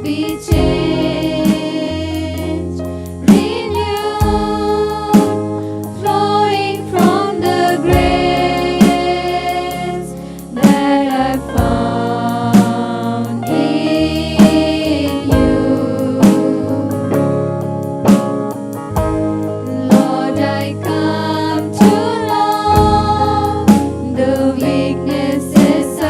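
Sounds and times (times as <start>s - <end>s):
voices singing together: 0.0s - 17.4s, 19.6s - 26.0s
band with drum kit: 0.0s - 26.0s.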